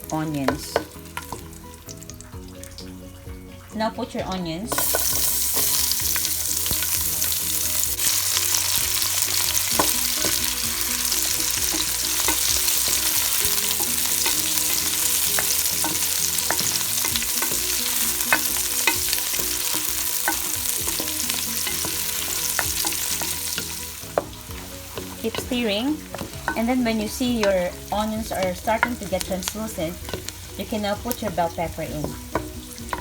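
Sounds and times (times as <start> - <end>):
onions sizzling in oil: 0.0 - 33.0
utensil clicking against pan: 4.3 - 7.0, 8.4 - 33.0.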